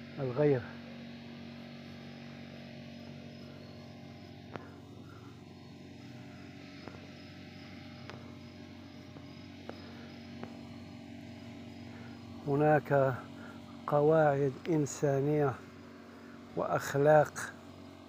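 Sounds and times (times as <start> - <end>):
steady low hum: 0.0 - 18.0
insect chirping: 1.4 - 17.9.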